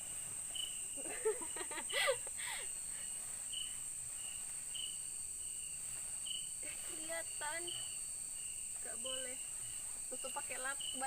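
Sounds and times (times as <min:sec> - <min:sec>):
high-pitched insect drone: 0:00.0 - 0:11.0
insect chirp: 0:00.0 - 0:11.0.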